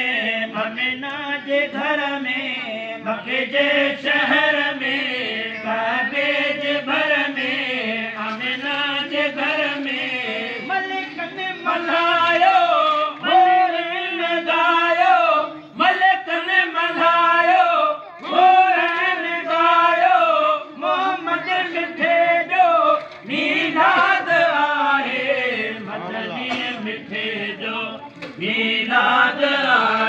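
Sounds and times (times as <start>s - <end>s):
men chanting devotional song: 0.0s - 30.0s.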